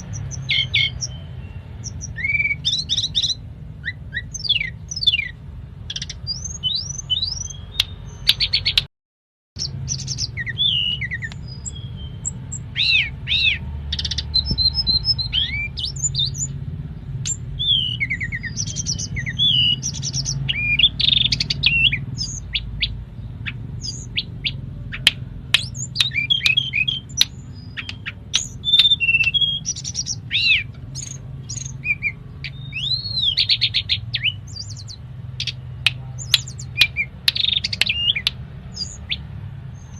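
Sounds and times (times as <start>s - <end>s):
songbird singing varied song: 0.0s - 8.9s, 9.6s - 39.9s.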